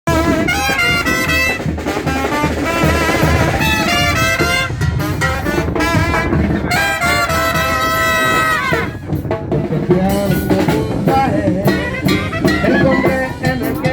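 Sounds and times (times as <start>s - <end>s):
brass band playing: 0.0s - 13.9s
bass and drum beat: 0.1s - 13.9s.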